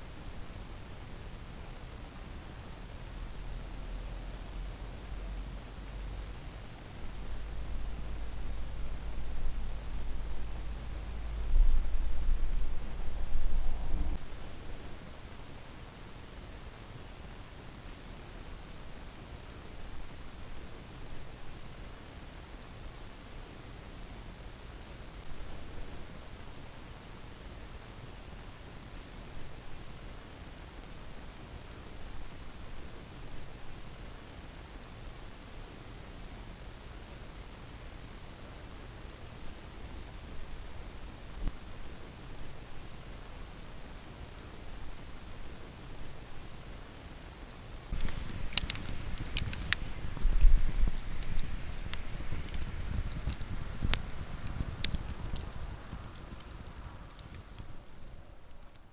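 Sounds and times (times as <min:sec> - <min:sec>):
high steady insect trill: 0:00.0 - 0:58.9
cricket chirping rapidly: 0:00.1 - 0:58.9.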